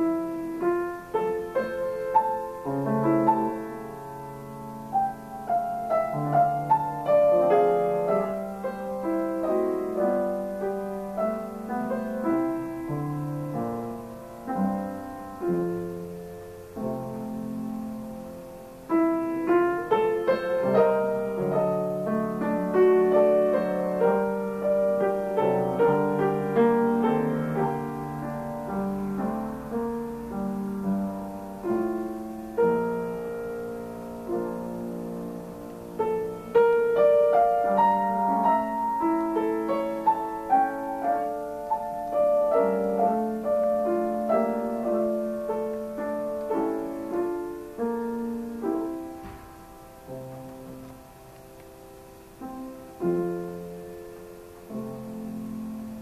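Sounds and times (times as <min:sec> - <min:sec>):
solo grand piano piece: 0:00.0 - 0:56.0.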